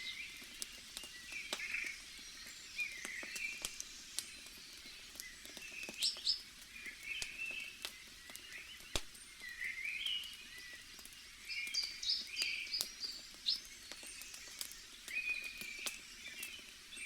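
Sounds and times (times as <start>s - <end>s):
small birds chirping: 0.0s - 17.0s
wood fire crackling and popping: 0.0s - 17.0s.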